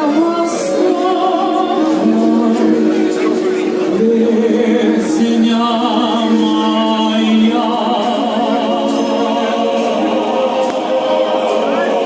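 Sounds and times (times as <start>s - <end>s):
choir singing long notes: 0.0s - 12.0s.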